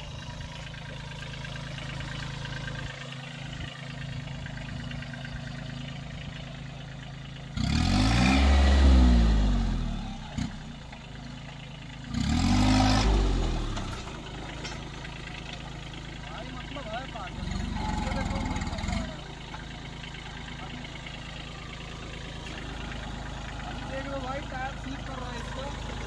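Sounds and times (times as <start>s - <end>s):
tractor diesel engine revving: 0.0s - 26.0s.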